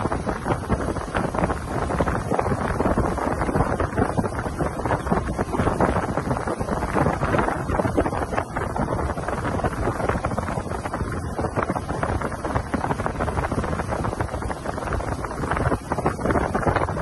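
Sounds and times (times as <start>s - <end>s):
water rushing past boat hull: 0.0s - 17.0s
wind buffeting microphone: 0.0s - 17.0s.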